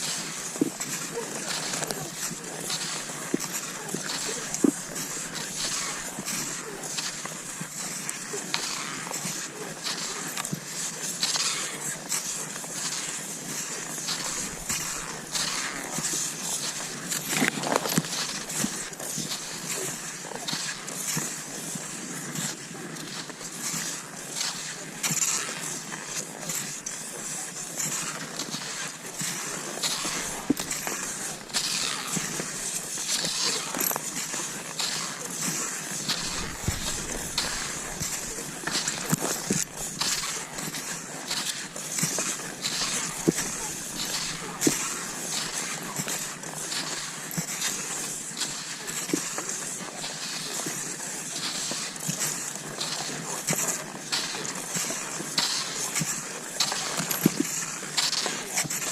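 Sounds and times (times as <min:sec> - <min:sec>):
skis crunching over snow: 0:00.0 - 0:58.9.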